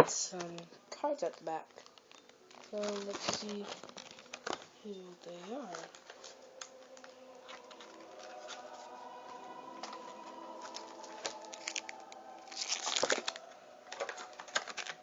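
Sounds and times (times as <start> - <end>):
plastic and card rustling: 0.0 - 15.0.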